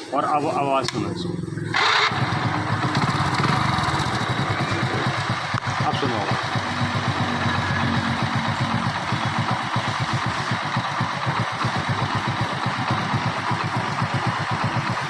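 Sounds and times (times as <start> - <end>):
motorcycle engine idling: 0.8 - 15.0.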